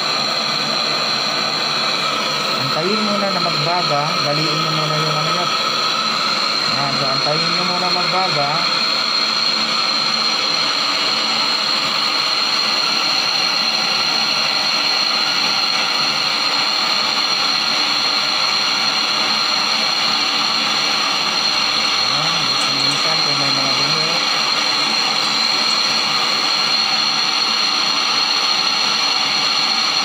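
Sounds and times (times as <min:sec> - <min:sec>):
gas torch flame hissing: 0:00.0 - 0:30.0.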